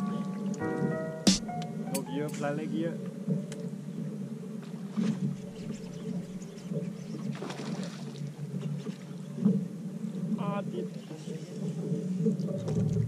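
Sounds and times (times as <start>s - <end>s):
low motor hum: 1.6s - 13.0s.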